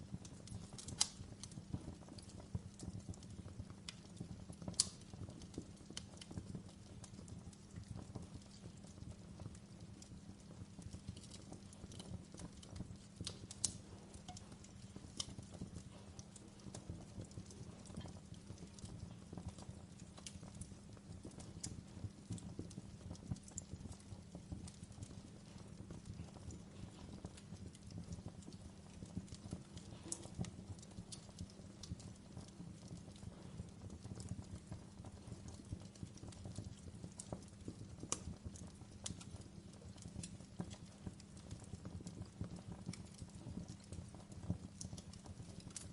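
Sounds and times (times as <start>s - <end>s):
logs crackling in fireplace: 0.0s - 45.9s.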